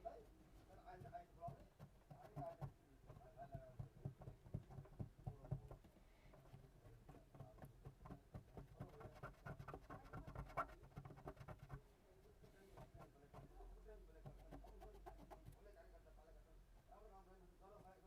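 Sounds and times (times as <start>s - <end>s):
small tool scratching and tapping: 0.0s - 15.8s.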